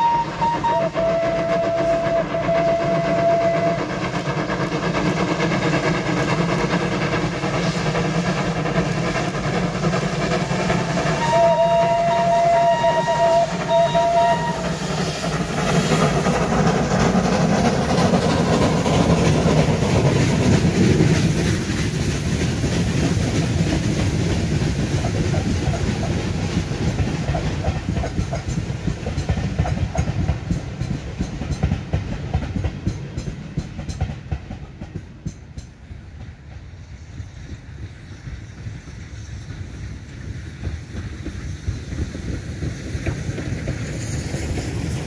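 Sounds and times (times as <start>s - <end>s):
steam locomotive exhaust: 0.0s - 45.0s
train wheels clattering over rail joints: 0.1s - 45.0s.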